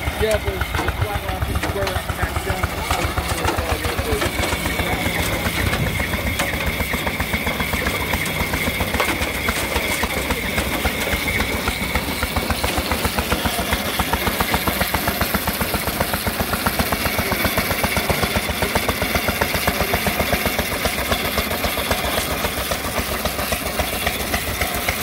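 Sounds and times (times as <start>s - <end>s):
stationary engine knocking: 0.0s - 25.0s.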